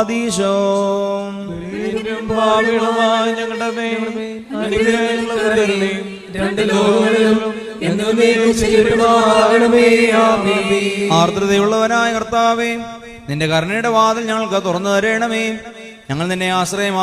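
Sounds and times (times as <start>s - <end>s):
person chanting: 0.0s - 17.0s.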